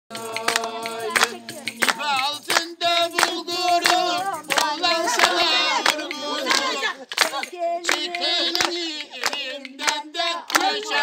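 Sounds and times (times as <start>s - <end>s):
hand claps: 0.1s - 11.0s
voices singing folk tune: 0.1s - 11.0s.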